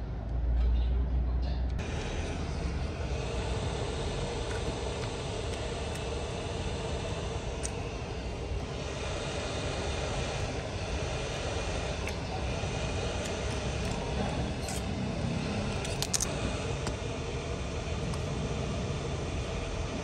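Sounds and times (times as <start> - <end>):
hot air gun blowing: 1.8 - 20.0.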